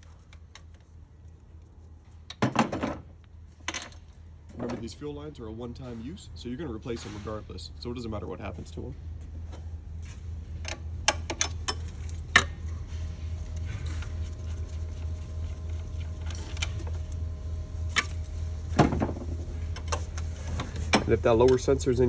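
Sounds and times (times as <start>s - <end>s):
low hum: 3.2s - 22.0s.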